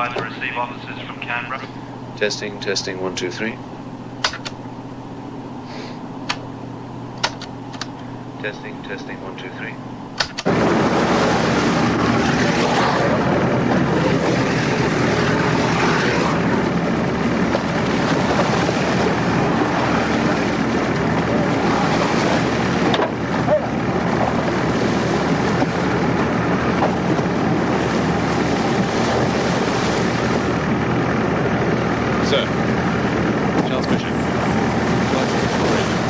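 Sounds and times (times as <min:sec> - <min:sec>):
small boat engine running: 0:00.0 - 0:36.0.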